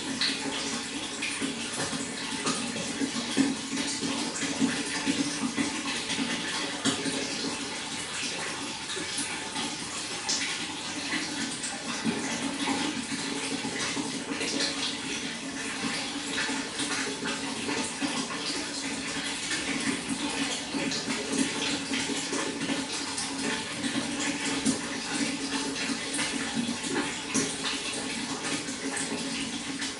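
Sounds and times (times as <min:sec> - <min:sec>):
flowing water splashing: 0:00.0 - 0:29.9
water dripping: 0:00.0 - 0:29.9.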